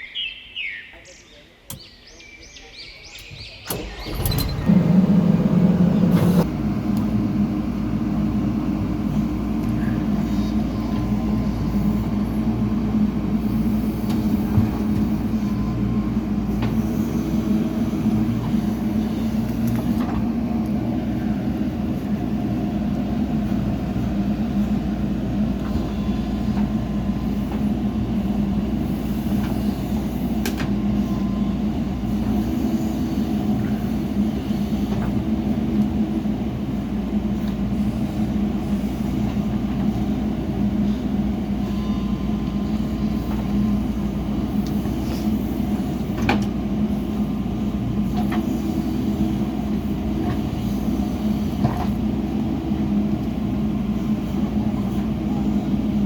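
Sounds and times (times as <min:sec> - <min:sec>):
diesel engine droning: 0:03.1 - 0:56.0.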